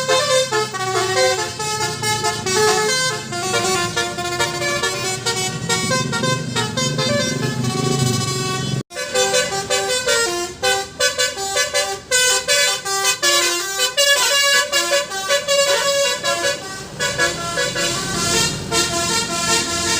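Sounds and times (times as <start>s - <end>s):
bus musical horn playing a tune: 0.0s - 19.9s.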